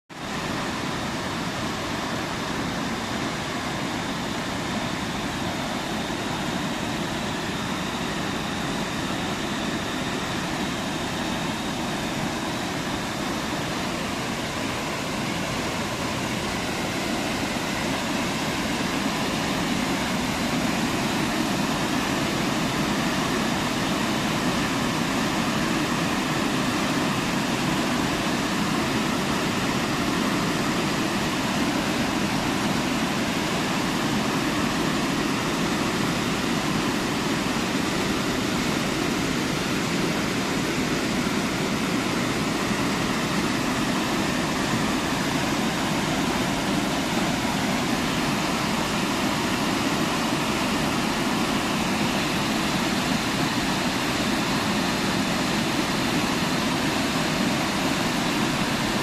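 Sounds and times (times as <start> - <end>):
waterfall rushing: 0.2 - 59.0.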